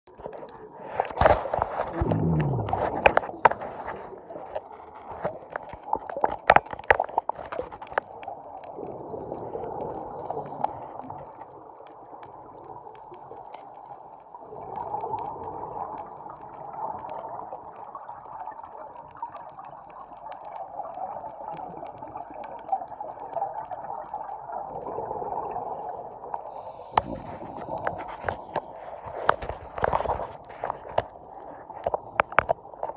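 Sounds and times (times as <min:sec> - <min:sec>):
regulator bubbles gurgling underwater: 0:00.1 - 0:32.9.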